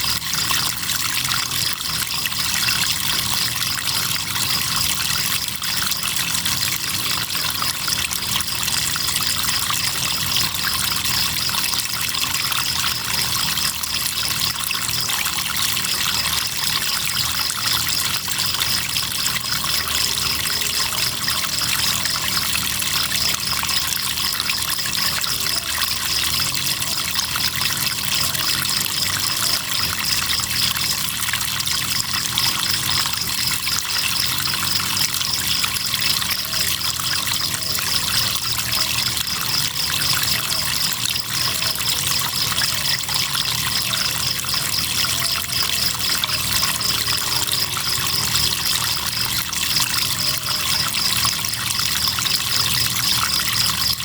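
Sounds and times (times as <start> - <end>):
crickets chirping: 0.0 - 54.0
river water flowing: 0.0 - 54.0.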